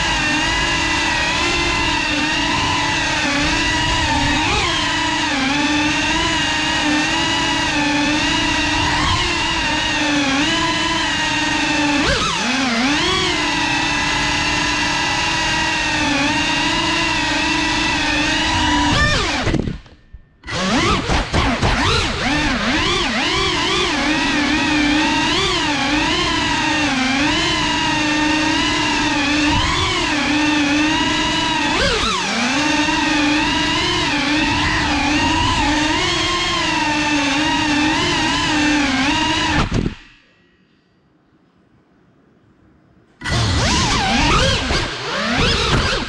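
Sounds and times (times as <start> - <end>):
drone motors whining: 0.0 - 40.4, 43.2 - 46.0.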